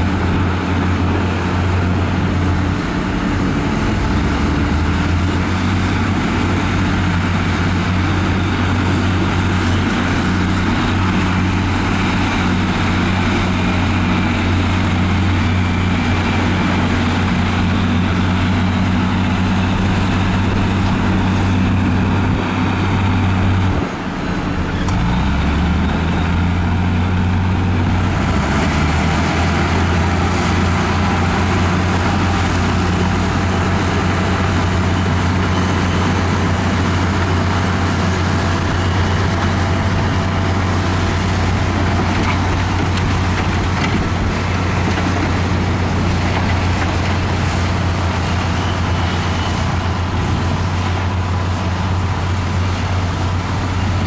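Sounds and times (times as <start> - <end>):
bulldozer diesel engines: 0.0 - 54.0.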